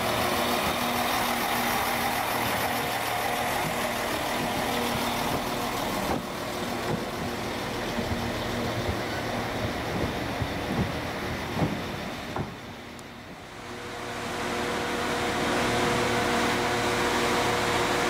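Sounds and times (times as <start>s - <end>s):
diesel train engines humming: 0.0s - 18.0s.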